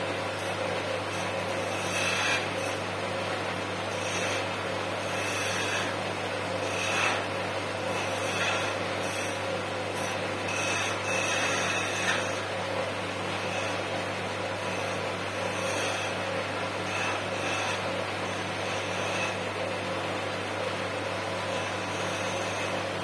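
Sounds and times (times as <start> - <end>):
chisel cutting spinning wood: 0.0 - 23.0
lathe motor hum: 0.0 - 23.0.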